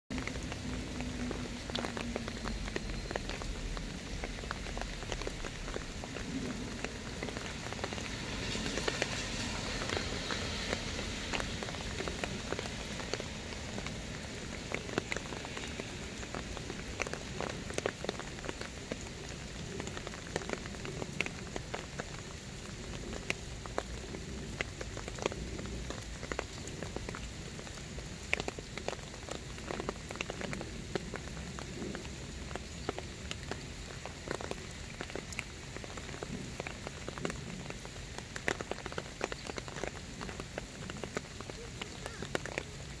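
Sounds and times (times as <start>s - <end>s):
rain falling on plants: 0.1s - 43.0s
raindrops ticking: 0.1s - 43.0s.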